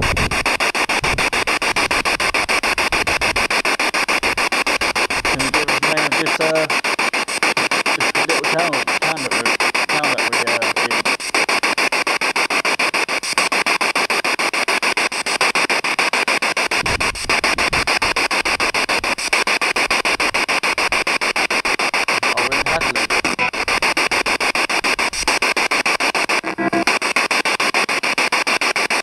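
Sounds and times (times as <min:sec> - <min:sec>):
pulsing radio static: 0:00.0 - 0:29.0.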